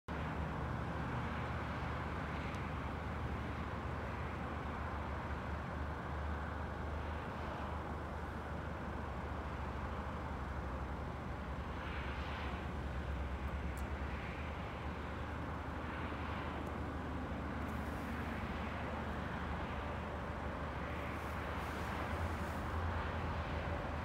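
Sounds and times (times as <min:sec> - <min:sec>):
road traffic rumble: 0:00.1 - 0:24.0.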